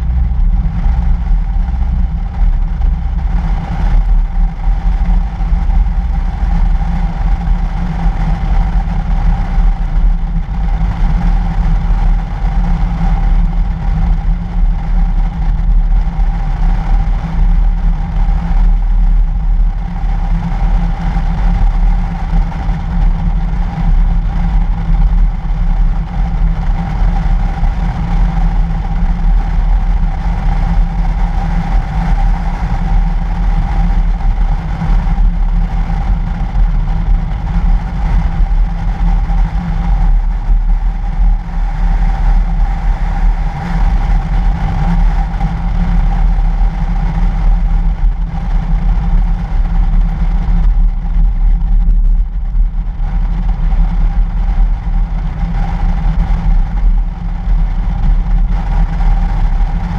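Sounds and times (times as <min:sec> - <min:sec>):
engine and tyre rumble: 0:00.0 - 0:59.9
steady mid-pitched hum: 0:00.0 - 0:59.9.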